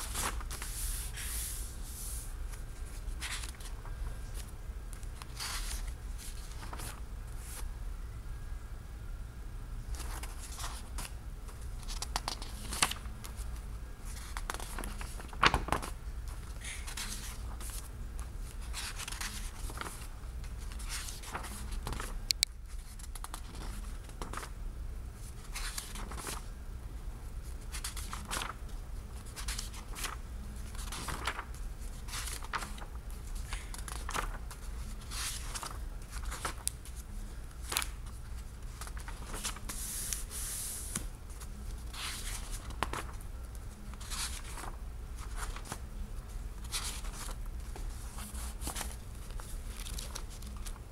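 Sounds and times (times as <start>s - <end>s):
book pages turning: 0.0s - 7.6s, 9.9s - 24.5s, 25.4s - 26.5s, 27.5s - 45.8s, 46.6s - 50.8s.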